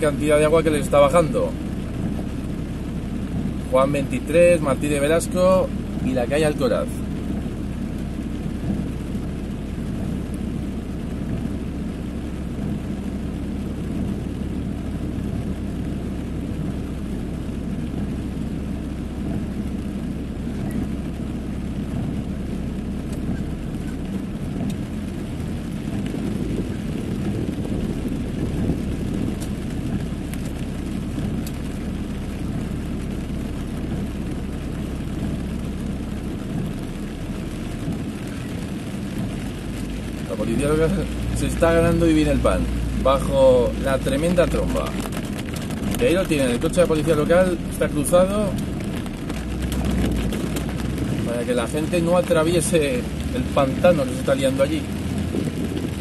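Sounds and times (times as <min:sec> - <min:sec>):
car engine running: 0:00.0 - 0:56.0
heavy rain hissing on car: 0:00.0 - 0:56.0.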